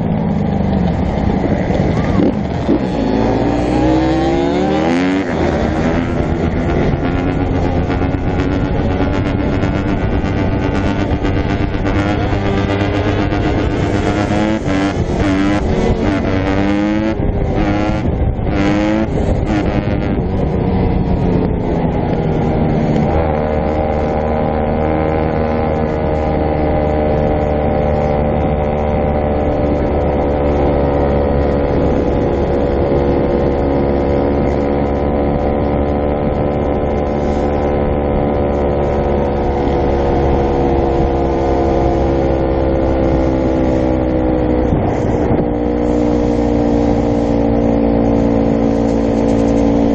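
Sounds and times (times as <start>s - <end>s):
dirt bike engine revving: 0.0s - 20.6s, 21.9s - 49.9s.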